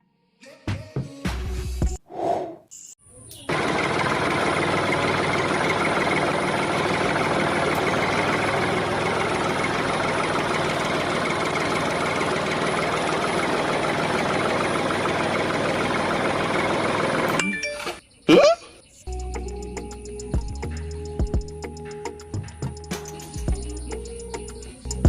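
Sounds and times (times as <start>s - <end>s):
motor running with rattle: 3.5s - 18.0s, 19.1s - 25.0s.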